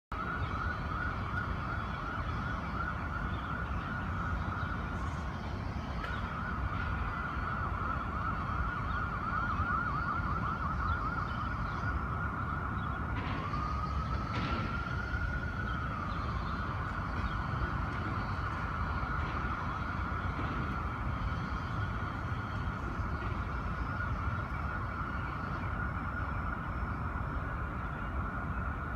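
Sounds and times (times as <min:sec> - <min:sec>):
emergency vehicle siren: 0:00.1 - 0:28.9
low city traffic rumble: 0:00.1 - 0:28.9.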